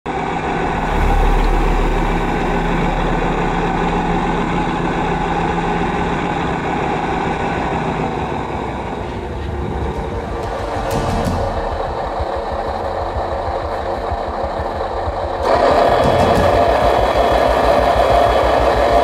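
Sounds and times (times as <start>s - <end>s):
low hum: 0.1s - 19.0s.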